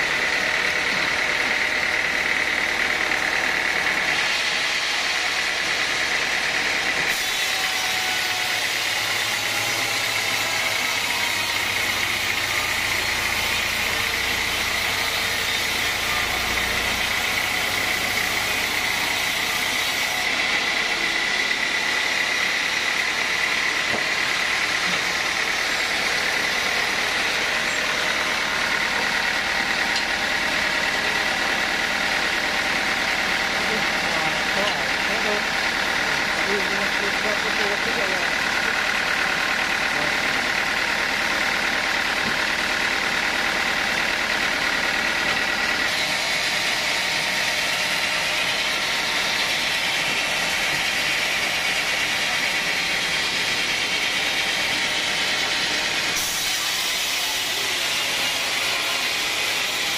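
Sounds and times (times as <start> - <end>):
band saw whining: 0.0 - 59.9.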